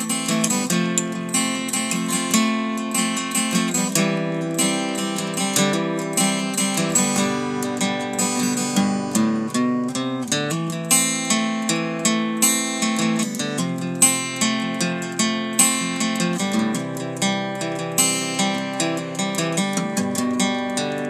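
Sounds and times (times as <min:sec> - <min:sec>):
acoustic guitar plucking: 0:00.0 - 0:21.0.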